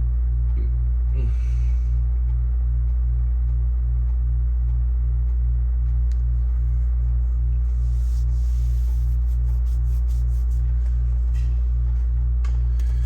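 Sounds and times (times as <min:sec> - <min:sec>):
floppy drive pulsing hum: 0:00.0 - 0:13.0.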